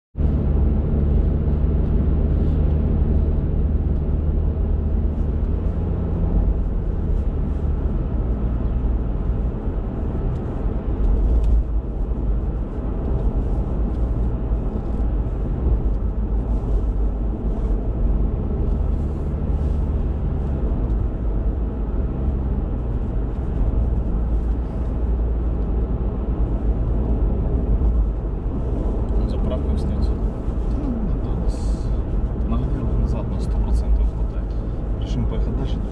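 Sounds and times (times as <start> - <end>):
car engine and tyres droning: 0.2 - 35.9.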